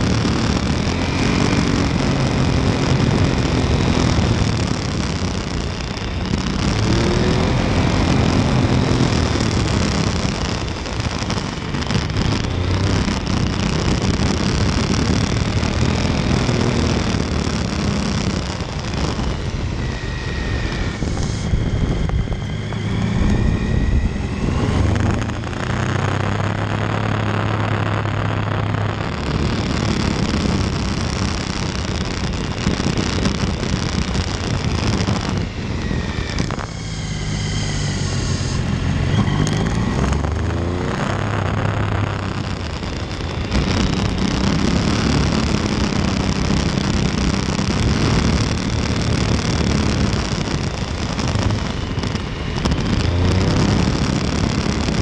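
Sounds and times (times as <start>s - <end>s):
motorcycle engine running: 0.0s - 55.0s
wind rushing past microphone: 0.0s - 55.0s.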